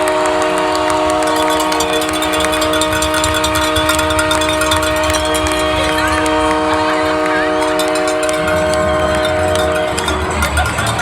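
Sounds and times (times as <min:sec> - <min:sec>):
crowd noise: 0:00.0 - 0:11.0
multi-tone air horn: 0:00.0 - 0:11.0
people clapping: 0:00.0 - 0:11.0.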